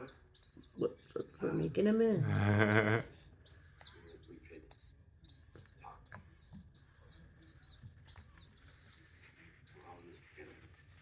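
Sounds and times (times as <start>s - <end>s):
baby birds chirping: 0.0s - 11.0s.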